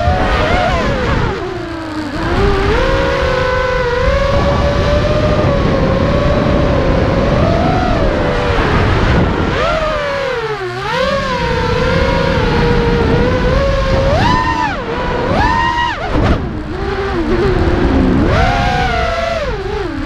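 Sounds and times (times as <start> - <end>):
quadcopter motors whining: 0.0 - 20.0
wind and frame vibration rumble: 0.0 - 20.0.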